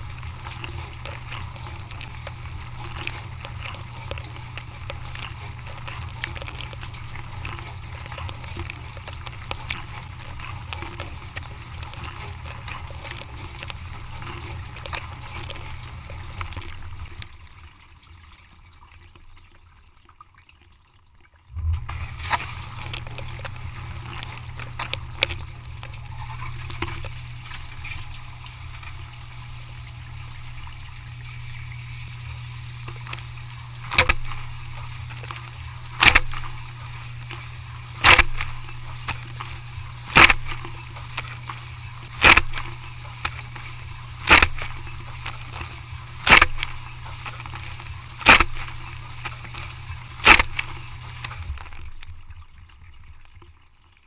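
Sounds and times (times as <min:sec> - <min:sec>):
water hissing: 0:00.0 - 0:17.5, 0:21.6 - 0:52.4
dishwasher motor hum: 0:00.0 - 0:20.0, 0:21.5 - 0:54.0.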